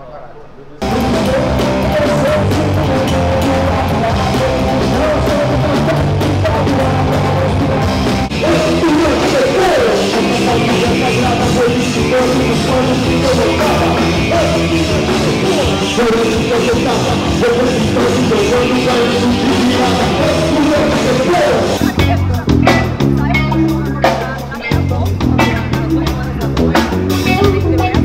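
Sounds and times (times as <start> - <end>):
person singing: 0.8 - 28.0
rock band playing: 0.8 - 28.0.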